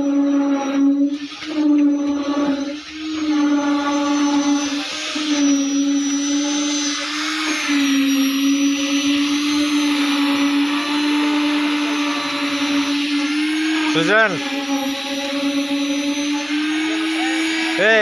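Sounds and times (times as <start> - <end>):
concrete pump whining: 0.0 - 18.0.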